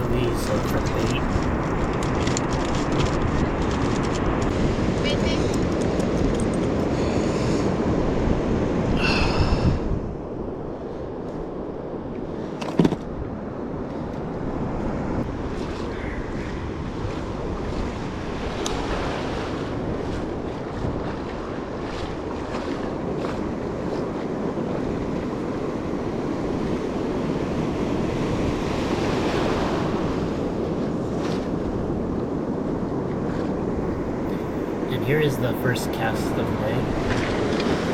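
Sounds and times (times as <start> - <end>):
wind buffeting the microphone: 0.0 - 35.3, 35.9 - 37.9
ocean surf on a beach: 0.0 - 37.9.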